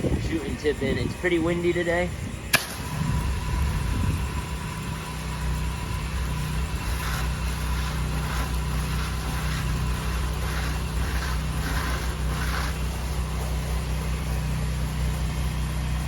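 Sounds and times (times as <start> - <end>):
pressure washer engine hum: 0.0 - 16.0
water spraying hiss: 0.4 - 16.0.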